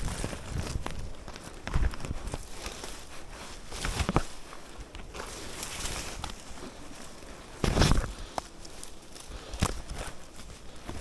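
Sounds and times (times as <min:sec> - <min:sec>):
footsteps through undergrowth: 0:00.0 - 0:11.0.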